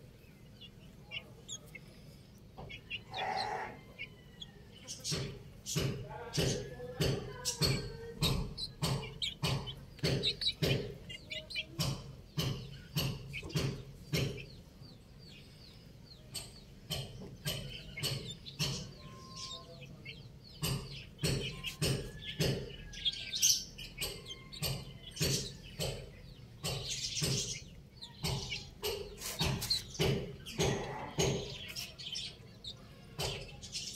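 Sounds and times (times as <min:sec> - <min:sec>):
beaks pecking concrete floor: 0:00.0 - 0:33.9
chicks peeping: 0:00.0 - 0:33.9.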